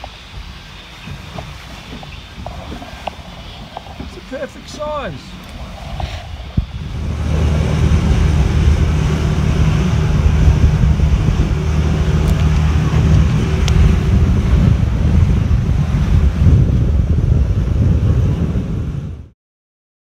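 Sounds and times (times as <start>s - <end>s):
outboard motor running: 0.0s - 19.1s
water rushing past hull: 0.0s - 19.3s
wind on microphone: 0.0s - 19.4s.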